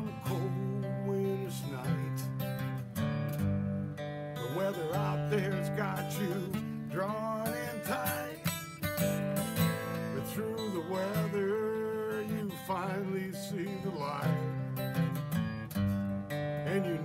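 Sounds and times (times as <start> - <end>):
person singing wordless melody: 0.0 - 2.7, 4.3 - 15.6, 16.2 - 17.0
acoustic guitar strumming: 0.0 - 17.0.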